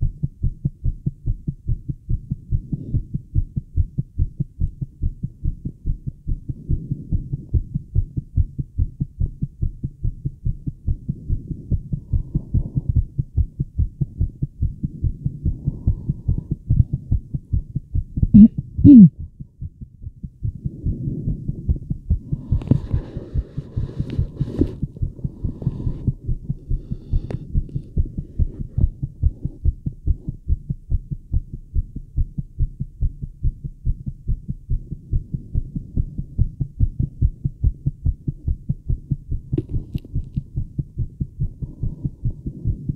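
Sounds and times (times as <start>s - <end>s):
fast heartbeat through stethoscope: 0.0s - 42.9s.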